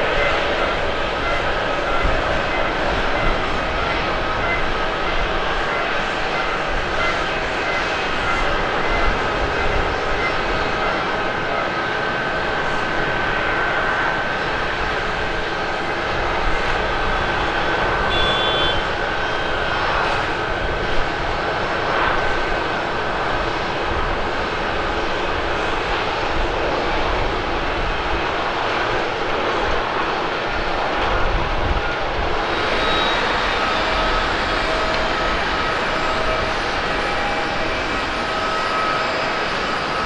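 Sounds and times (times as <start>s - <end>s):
jet engines running: 0.0s - 40.0s.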